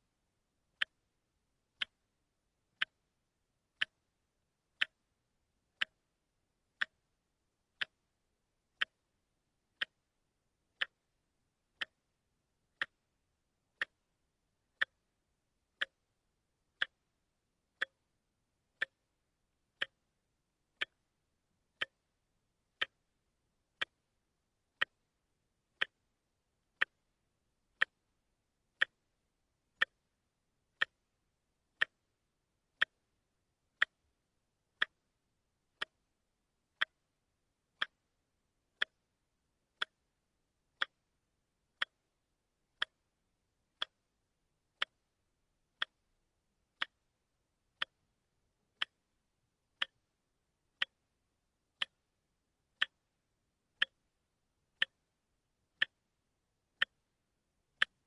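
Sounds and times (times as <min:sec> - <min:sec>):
wristwatch ticking: 0:00.6 - 0:58.0.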